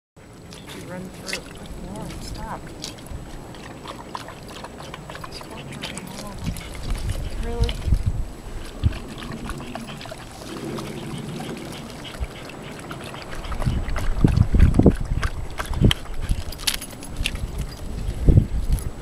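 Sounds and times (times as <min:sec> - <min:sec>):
dog lapping water: 0:00.3 - 0:17.8.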